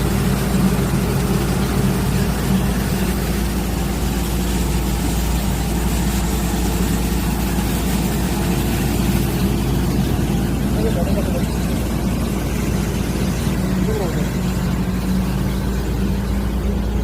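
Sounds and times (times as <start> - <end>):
core drilling machine droning: 0.0 - 17.0.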